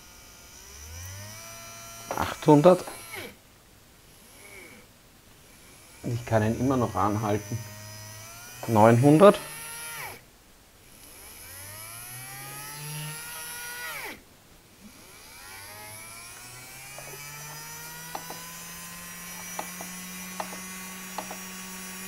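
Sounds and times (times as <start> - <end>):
small electric motor whining: 0.0 - 3.4, 4.1 - 10.2, 10.8 - 14.2, 14.8 - 22.0.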